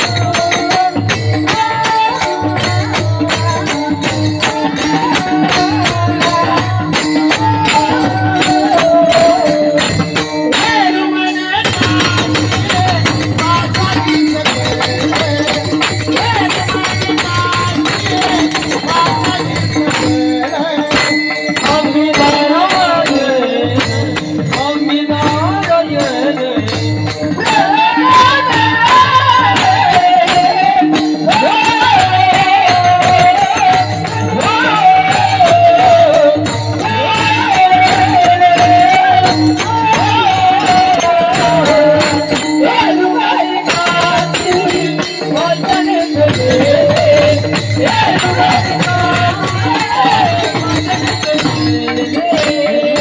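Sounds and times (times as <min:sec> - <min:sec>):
even drum beat: 0:00.0 - 0:53.0
jingling rattling percussion: 0:00.0 - 0:53.0.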